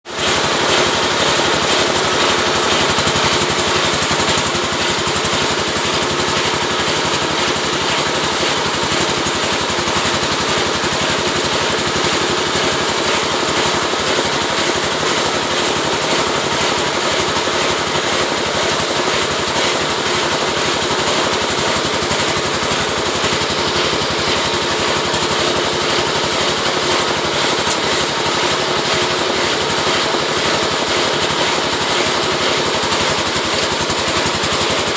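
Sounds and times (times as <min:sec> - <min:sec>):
scraping machine buzzing and rattling: 0:00.1 - 0:34.9.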